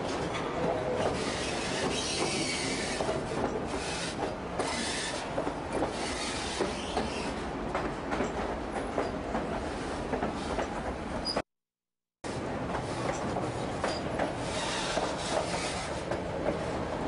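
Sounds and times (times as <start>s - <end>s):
train car rumble and hiss: 0.1s - 11.3s, 12.2s - 17.0s.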